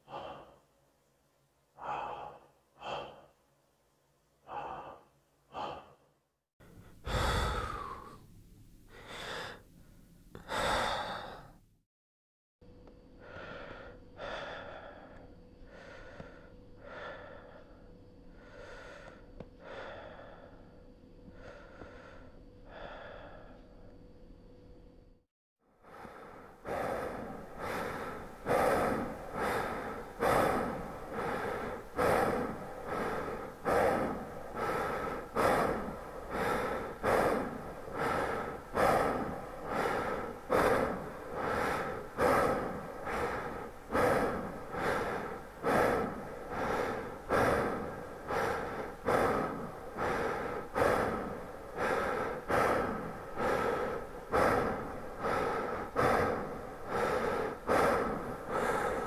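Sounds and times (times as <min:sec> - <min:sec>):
person breathing with reverb: 0:00.0 - 0:00.7, 0:01.7 - 0:03.4, 0:04.4 - 0:08.3, 0:08.9 - 0:11.7, 0:13.2 - 0:23.8, 0:25.7 - 0:59.0.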